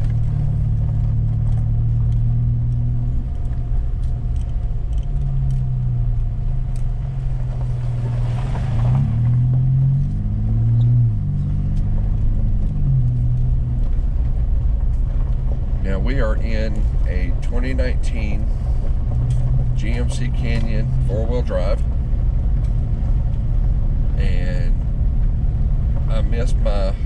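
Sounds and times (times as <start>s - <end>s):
pickup truck engine running: 0.0s - 27.0s.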